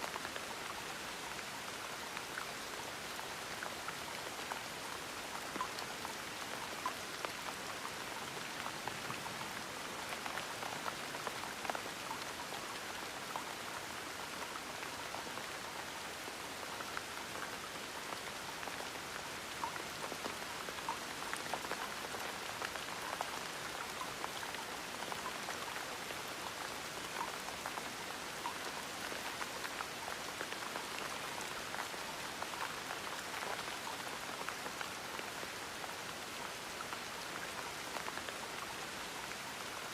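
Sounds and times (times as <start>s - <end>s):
raindrops pattering on a surface: 0.0s - 39.9s.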